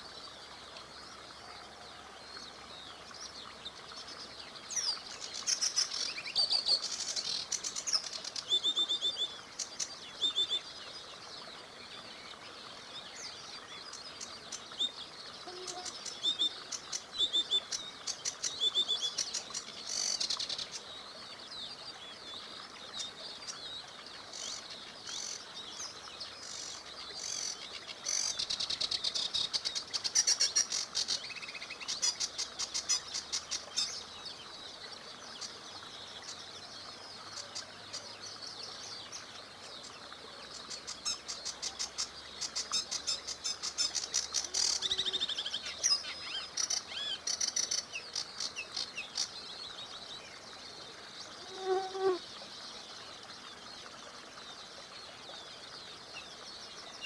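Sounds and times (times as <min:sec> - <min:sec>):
songbirds trilling and chirping: 0:00.0 - 0:57.0.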